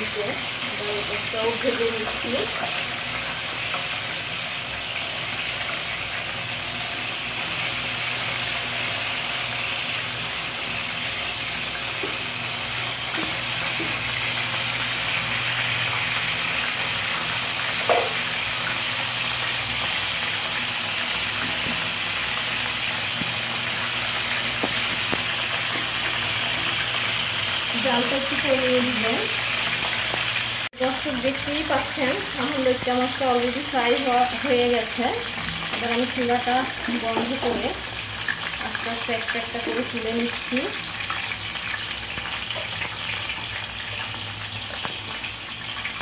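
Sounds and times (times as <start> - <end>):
fish sizzling in hot oil: 0.0 - 46.0.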